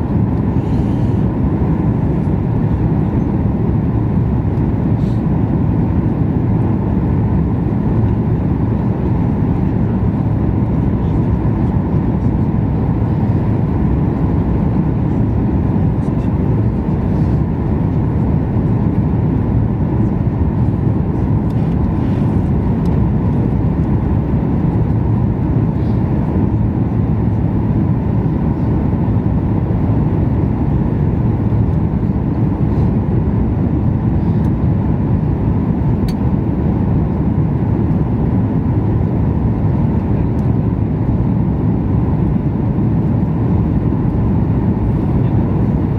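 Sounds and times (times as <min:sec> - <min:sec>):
airliner cabin rumble: 0:00.0 - 0:45.9.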